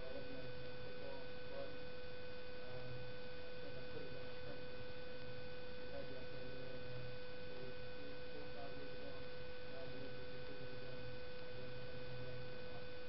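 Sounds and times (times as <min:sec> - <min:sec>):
faint indistinct voices: 0:00.0 - 0:13.0
steady electrical hum: 0:00.0 - 0:13.0.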